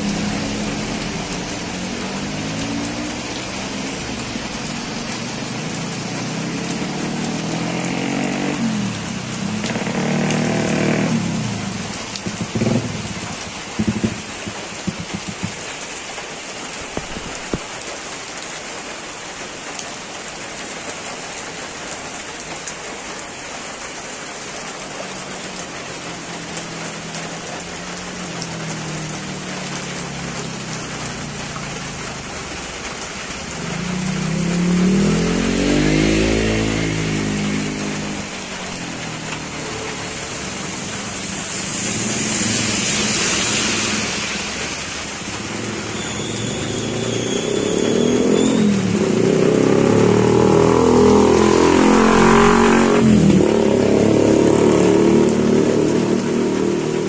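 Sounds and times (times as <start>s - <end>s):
motor vehicle passing: 0.0s - 15.8s, 25.4s - 57.0s
heavy rain splashing into water: 0.0s - 57.0s.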